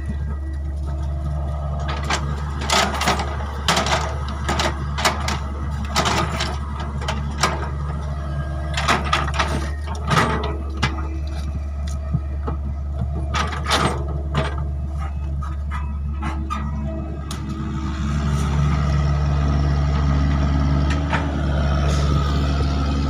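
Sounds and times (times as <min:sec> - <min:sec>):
machine clanking and squeaking: 0:00.0 - 0:19.1
excavator engine running: 0:00.0 - 0:23.0.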